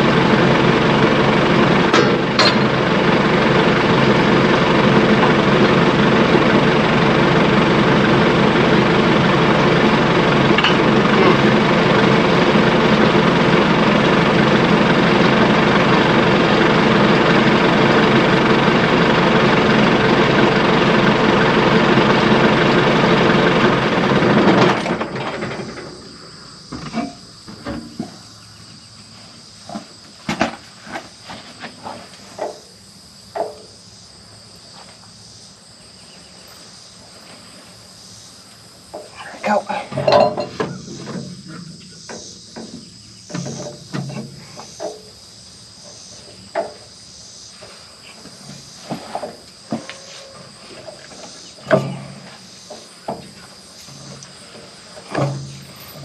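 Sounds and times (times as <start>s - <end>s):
crickets chirping: 0.0s - 56.0s
tractor engine running: 0.0s - 56.0s.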